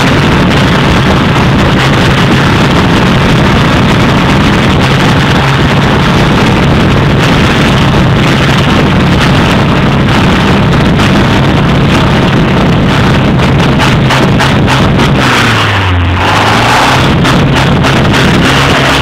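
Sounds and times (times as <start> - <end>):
car engine misfiring: 0.0 - 19.0.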